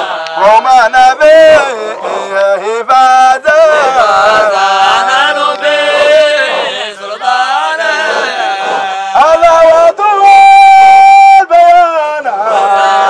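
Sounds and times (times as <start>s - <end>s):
men chanting call and response: 0.0s - 13.0s
lead voice through megaphone: 0.4s - 13.0s.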